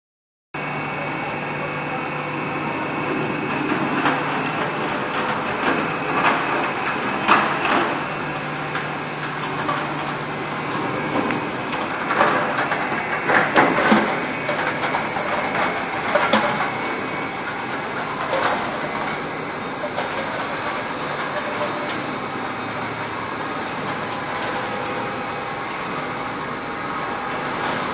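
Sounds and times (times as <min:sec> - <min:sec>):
fibre opening machine humming: 0:00.6 - 0:27.9.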